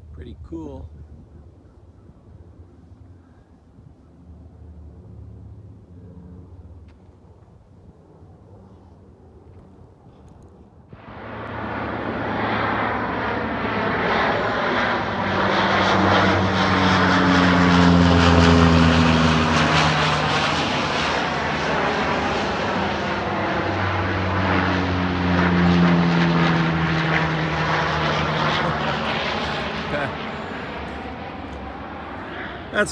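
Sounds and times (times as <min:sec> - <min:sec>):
propeller planes flying overhead: 0:00.0 - 0:32.9.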